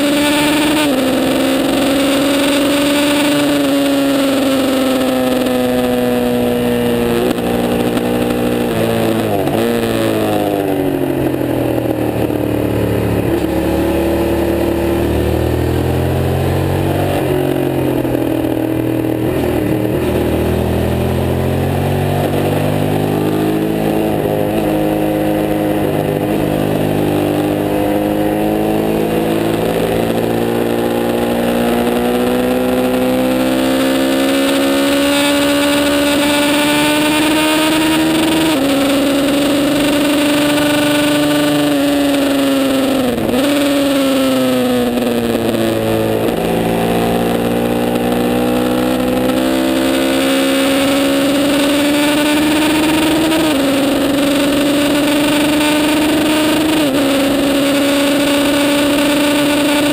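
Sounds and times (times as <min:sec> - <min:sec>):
race motorcycle engine revving: 0:00.0 - 0:59.9.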